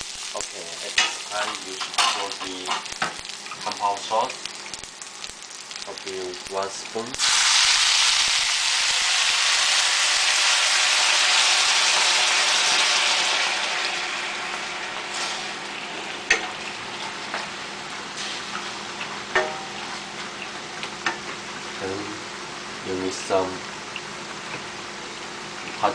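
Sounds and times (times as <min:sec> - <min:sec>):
sauce sizzling in hot pan: 0:00.0 - 0:25.9.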